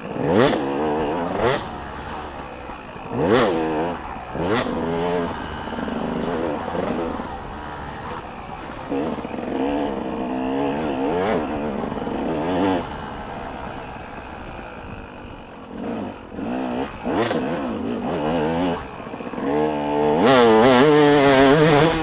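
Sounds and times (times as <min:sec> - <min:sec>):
motocross bike engines revving: 0:00.0 - 0:22.0
motorbike passing close: 0:00.0 - 0:22.0.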